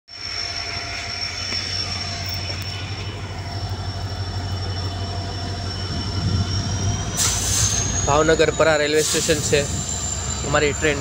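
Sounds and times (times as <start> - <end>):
high-pitched whine: 0.1 - 11.0
train coaches rumbling: 0.1 - 11.0.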